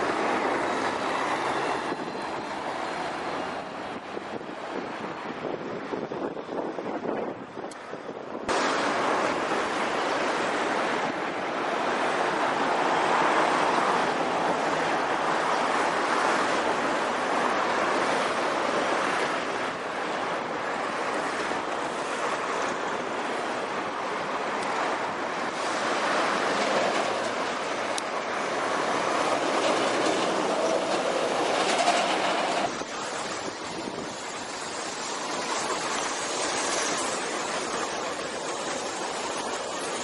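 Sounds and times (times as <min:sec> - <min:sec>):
street traffic rushing: 0:00.0 - 0:40.0
wind on microphone: 0:00.0 - 0:40.0.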